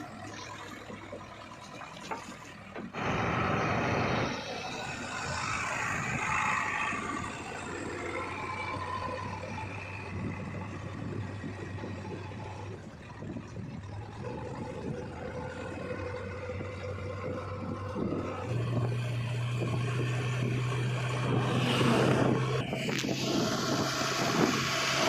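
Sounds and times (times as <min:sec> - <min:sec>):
diesel engine revving: 0:02.2 - 0:25.0.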